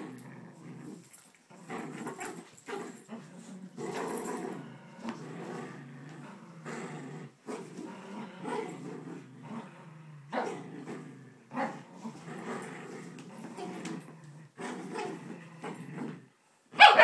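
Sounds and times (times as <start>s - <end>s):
dogs growling in play: 0.0s - 16.4s.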